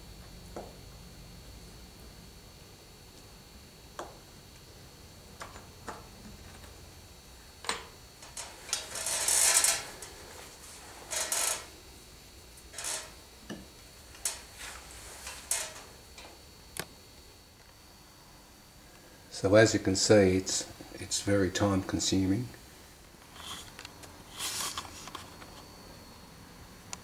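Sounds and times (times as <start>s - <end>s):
faint high whine: 0.0s - 27.0s.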